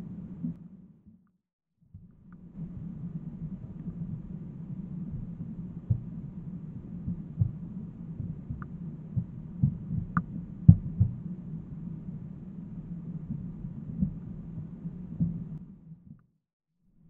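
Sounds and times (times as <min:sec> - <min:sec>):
steady low hum: 0:00.0 - 0:01.1, 0:02.0 - 0:16.2.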